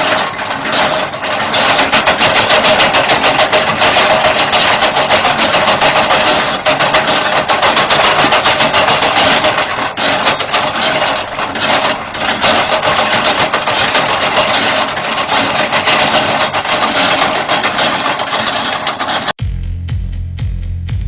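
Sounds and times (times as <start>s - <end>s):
wood chipper running: 0.0s - 19.3s
rapid crackling: 0.0s - 19.4s.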